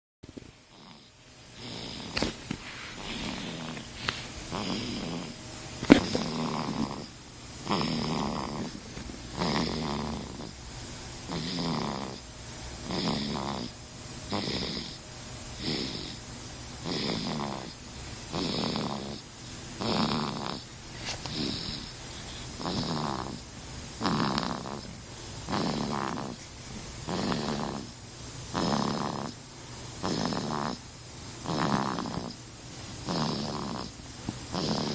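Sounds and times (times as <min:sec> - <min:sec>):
baby snoring: 0:00.7 - 0:12.2, 0:12.8 - 0:34.9.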